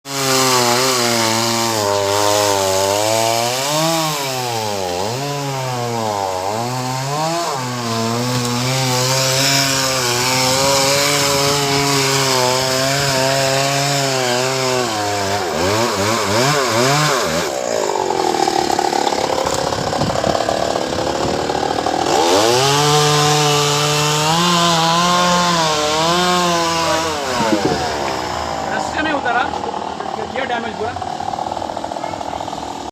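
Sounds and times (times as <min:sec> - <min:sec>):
chainsaw cutting wood: 0:00.1 - 0:32.9.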